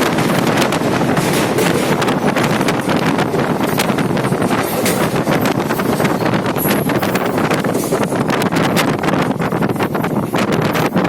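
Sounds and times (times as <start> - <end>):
moving train rushing: 0.0 - 11.0
wind buffeting microphone: 0.0 - 11.0.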